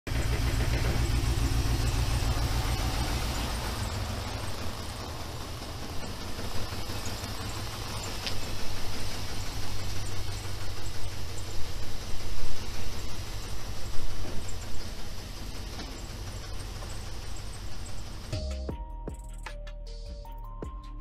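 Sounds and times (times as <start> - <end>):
engine running roughly: 0.0 - 19.5
valve-train knock: 0.1 - 19.5.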